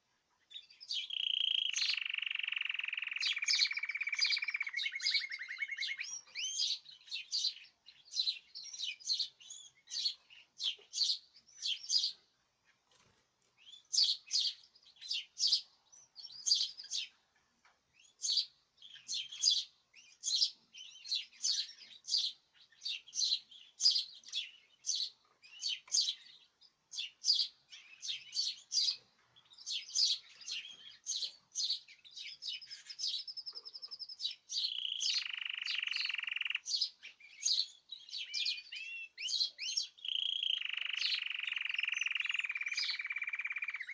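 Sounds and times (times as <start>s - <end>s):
songbirds chirping and singing: 0.1s - 43.9s.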